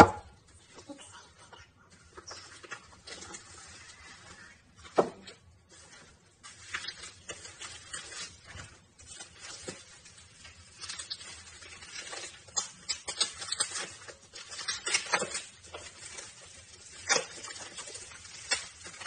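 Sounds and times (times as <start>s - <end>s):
plastic packaging crinkling: 0.2s - 19.0s.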